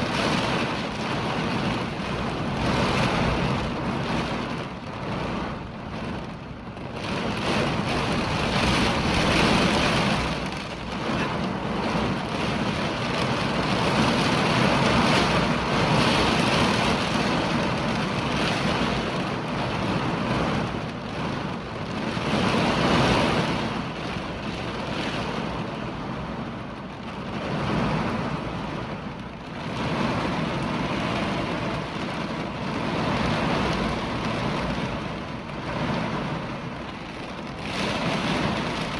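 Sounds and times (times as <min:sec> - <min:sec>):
heavy rain: 0:00.0 - 0:38.9
hurricane wind gusting: 0:00.0 - 0:38.9.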